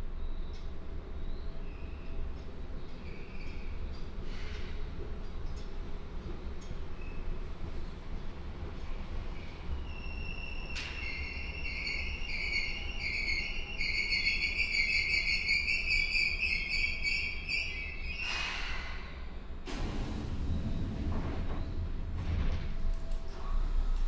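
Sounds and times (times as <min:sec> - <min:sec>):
low hum of train equipment: 0:00.0 - 0:24.0.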